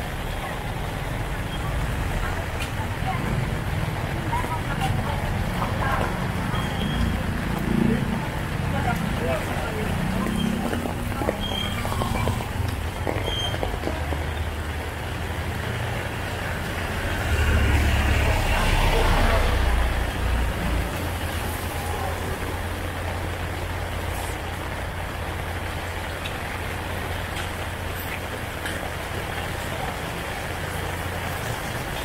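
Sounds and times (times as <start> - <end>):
heavy rain on a street: 0.0 - 32.0
car passing on wet road: 1.8 - 32.0.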